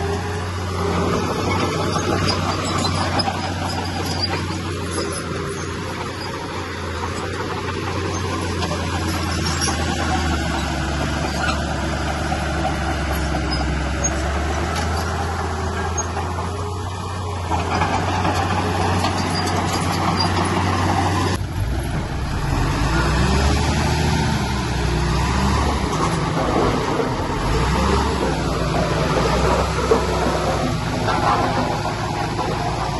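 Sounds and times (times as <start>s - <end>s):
heavy diesel engine under load: 0.0s - 32.9s.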